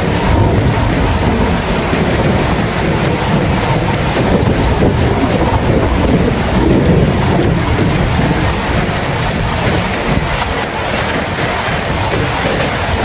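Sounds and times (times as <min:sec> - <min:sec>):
low rumble of thunder: 0:00.0 - 0:13.0
steady rain: 0:00.0 - 0:13.0.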